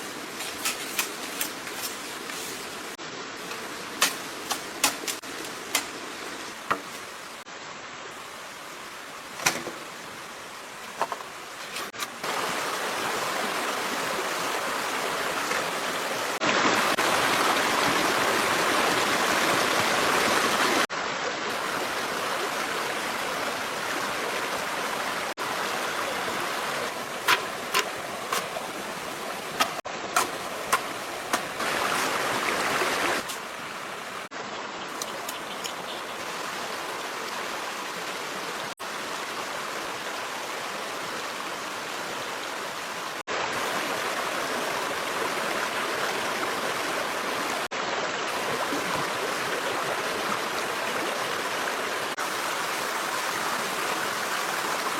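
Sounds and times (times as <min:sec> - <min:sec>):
stream water running: 0:00.0 - 0:54.9.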